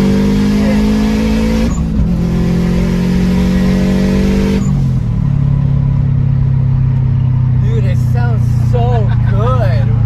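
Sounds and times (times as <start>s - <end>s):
turbocharged engine pulling hard: 0.0s - 10.0s.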